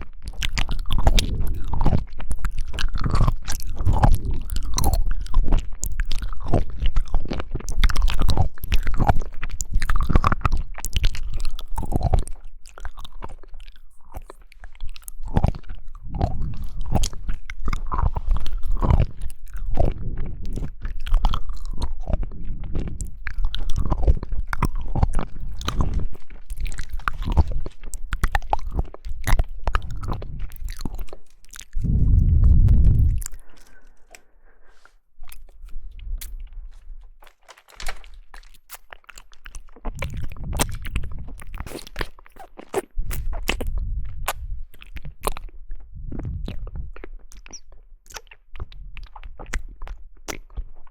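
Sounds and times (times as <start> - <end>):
person chewing jelly: 0.0 - 50.9.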